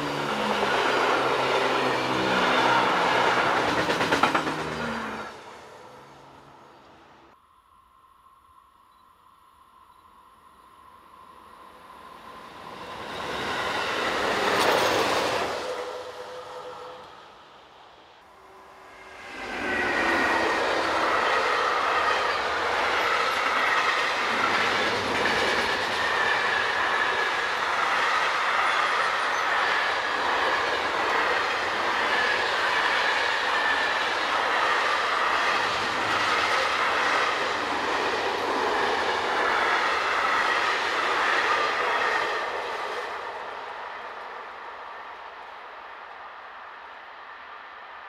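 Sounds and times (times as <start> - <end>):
freight train rolling past: 0.0 - 7.4, 9.9 - 45.8.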